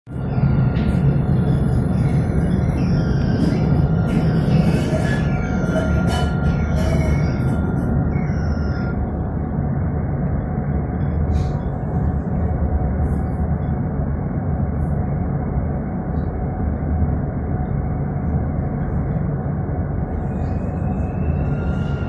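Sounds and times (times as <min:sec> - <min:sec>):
tram running rumble: 0:00.1 - 0:22.0.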